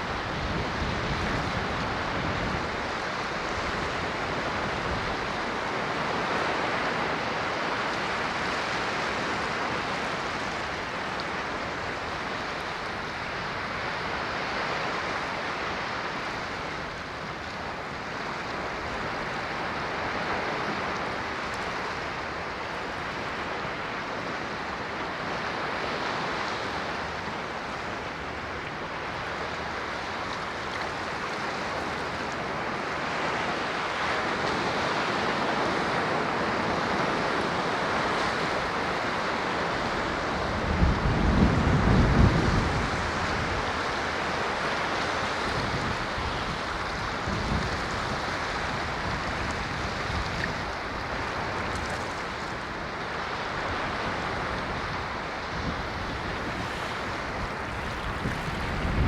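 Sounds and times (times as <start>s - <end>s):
ocean surf rushing: 0.0s - 59.0s.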